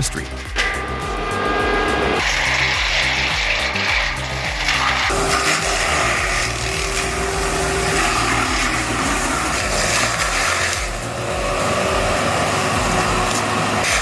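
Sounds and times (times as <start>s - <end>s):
music with thumping bass beat: 0.0s - 14.0s
forestry machine shredding wood: 2.3s - 14.0s.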